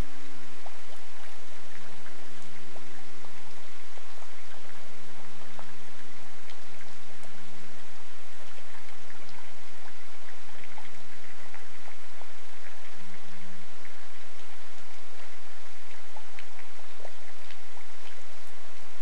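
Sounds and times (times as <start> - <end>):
low steady hum: 0.0 - 19.0
rain falling: 0.0 - 19.0
raindrops ticking: 0.0 - 19.0.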